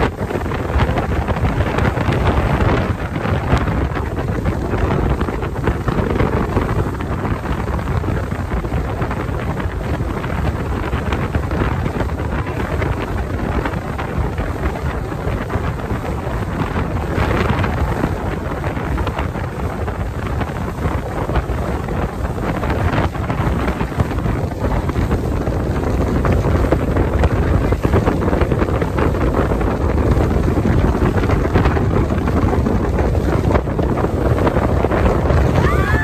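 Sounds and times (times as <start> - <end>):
rushing water: 0.0 - 36.0
speedboat engine: 0.0 - 36.0
wind buffeting microphone: 0.0 - 36.0.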